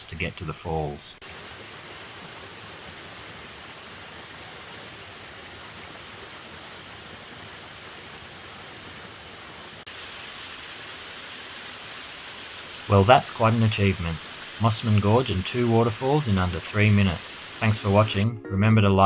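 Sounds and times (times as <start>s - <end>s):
waterfall hiss: 0.0s - 18.3s.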